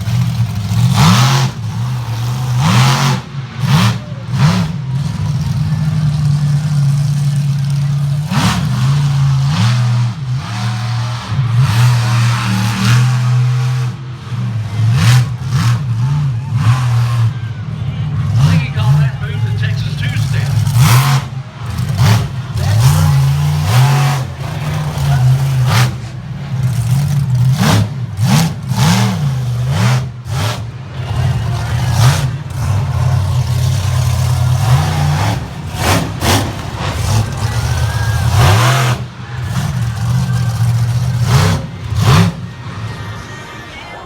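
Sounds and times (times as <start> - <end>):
monster truck engine revving: 0.0 - 44.0.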